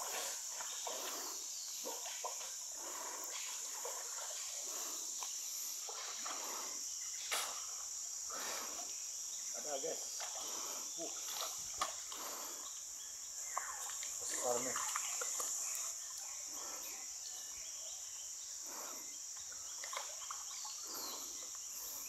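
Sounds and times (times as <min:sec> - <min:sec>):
movement in water: 0:00.0 - 0:09.0, 0:10.1 - 0:12.8, 0:13.4 - 0:16.9, 0:18.8 - 0:22.0
insects chirring: 0:00.0 - 0:22.0.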